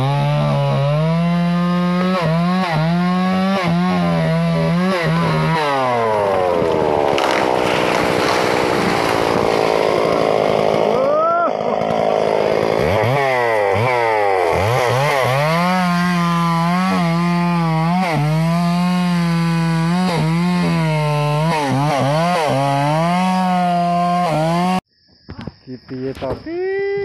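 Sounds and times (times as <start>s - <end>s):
chainsaw cutting log: 0.0s - 24.8s.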